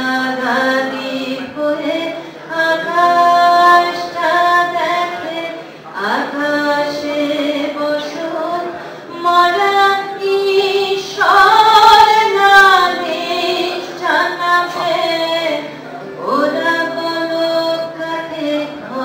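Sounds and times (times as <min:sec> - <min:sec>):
woman singing: 0:00.0 - 0:19.0.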